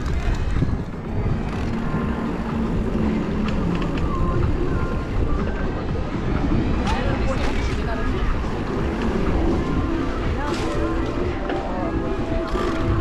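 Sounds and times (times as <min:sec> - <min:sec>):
bicycle tyres rumbling on paving: 0:00.0 - 0:13.0
wind on microphone: 0:00.0 - 0:13.0.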